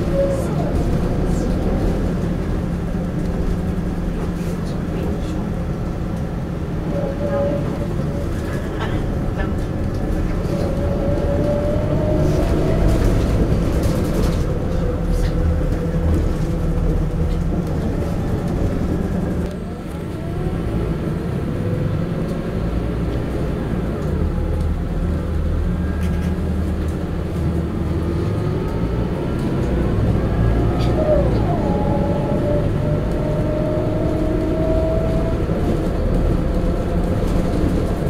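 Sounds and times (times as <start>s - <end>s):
deep bus engine rumble: 0.0s - 38.0s.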